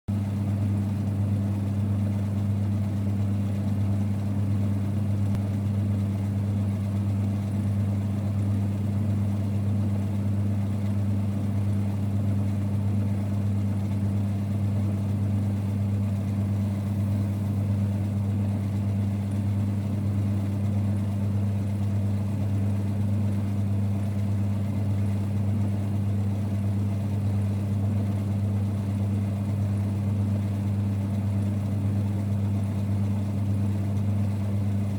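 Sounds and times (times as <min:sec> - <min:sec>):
lathe running with low hum: 0:00.1 - 0:34.9.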